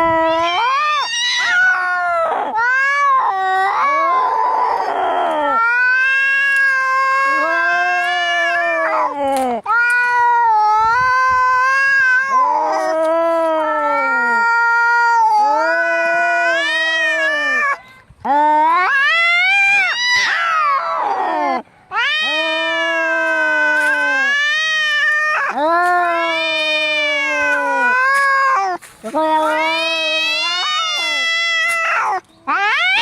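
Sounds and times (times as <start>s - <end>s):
cats yowling in a fight: 0.0s - 33.0s.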